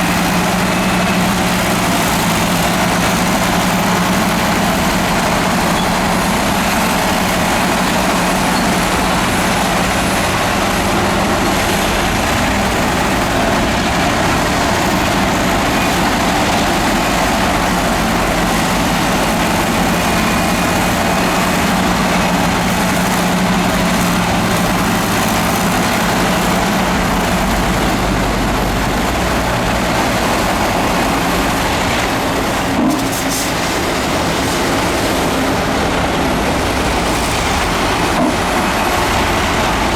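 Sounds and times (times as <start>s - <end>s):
diesel machinery engine rattling: 0.0s - 39.9s.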